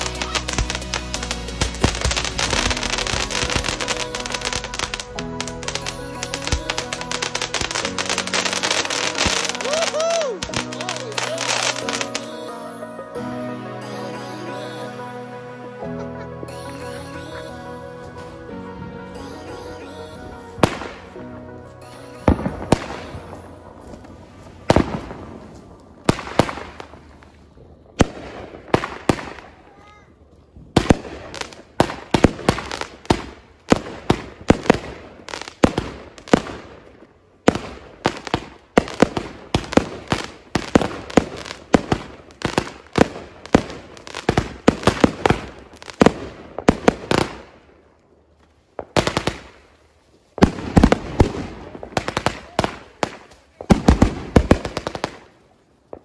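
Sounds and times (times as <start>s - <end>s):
fireworks bangs and crackles: 0.0s - 12.5s, 18.2s - 56.0s.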